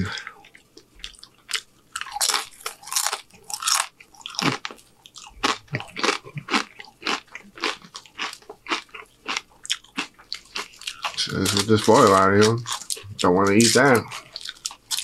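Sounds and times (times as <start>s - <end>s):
chewing crunchy chip: 0.4s - 15.0s.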